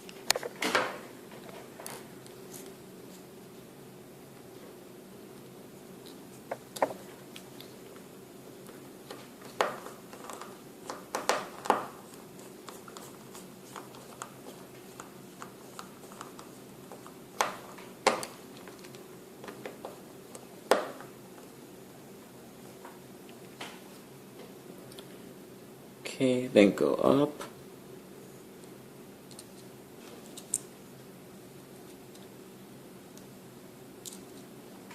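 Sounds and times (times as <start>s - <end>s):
faint steady hum: 0.0s - 34.9s.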